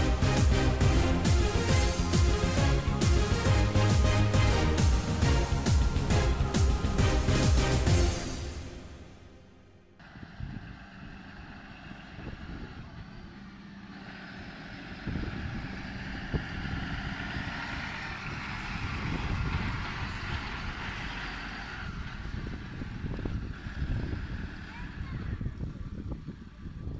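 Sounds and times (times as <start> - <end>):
fire engine diesel engine passing: 0.0 - 26.9.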